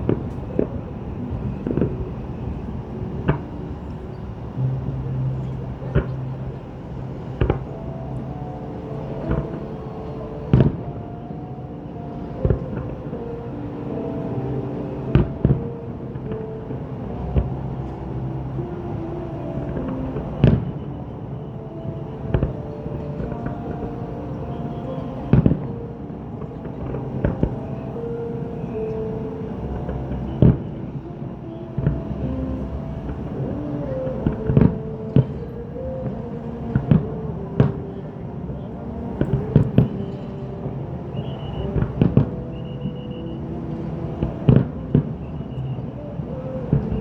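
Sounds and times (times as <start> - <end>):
music playing: 0.0 - 47.0.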